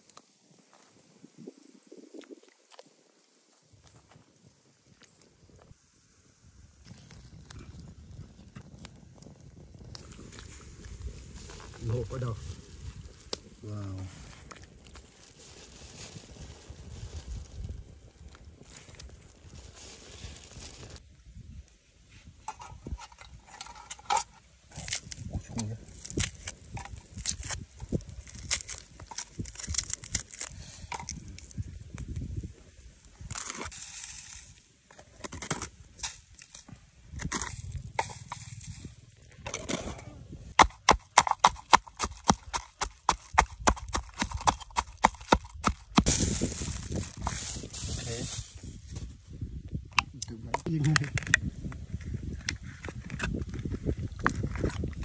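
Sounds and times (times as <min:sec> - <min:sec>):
wood fire crackling: 0:00.0 - 0:21.1, 0:22.4 - 0:39.7, 0:40.3 - 0:55.0.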